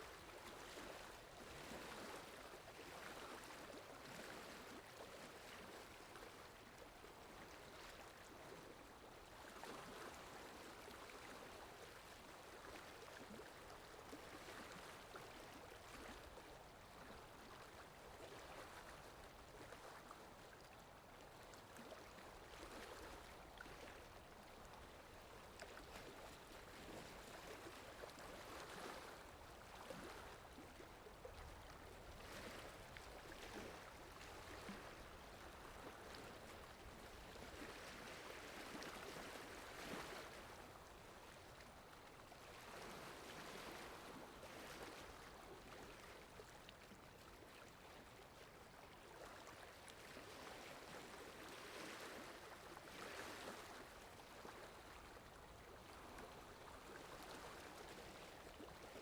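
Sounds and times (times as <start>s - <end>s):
faint flowing water: 0.0s - 59.0s.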